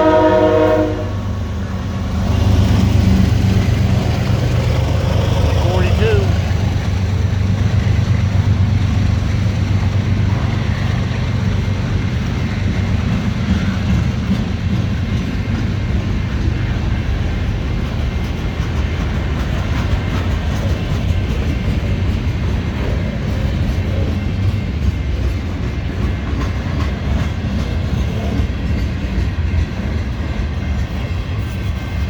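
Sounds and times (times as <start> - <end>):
freight train wheels on rails: 0.0 - 32.0.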